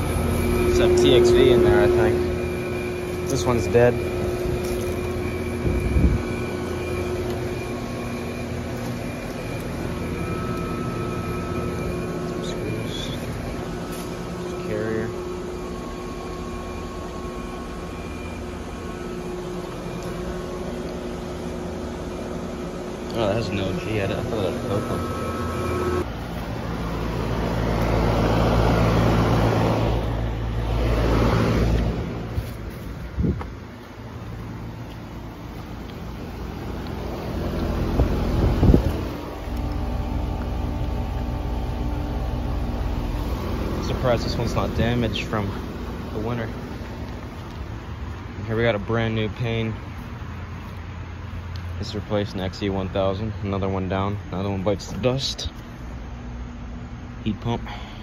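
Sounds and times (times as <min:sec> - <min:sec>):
condenser fan rushing: 0:00.0 - 0:58.0
heat pump units humming: 0:00.0 - 0:58.0.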